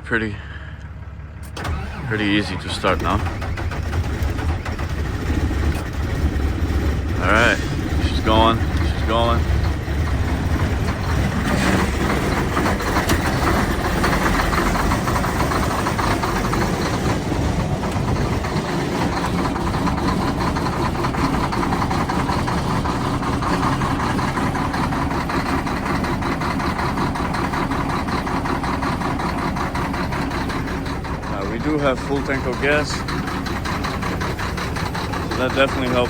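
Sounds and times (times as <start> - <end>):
diesel truck engine idling: 0.0 - 36.0.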